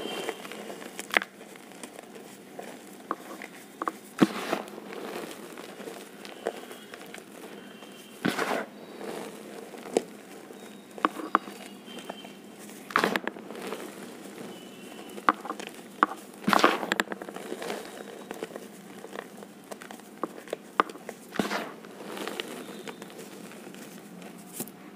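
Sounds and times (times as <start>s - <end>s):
hands crumbling crunchy pieces: 0.0s - 24.8s.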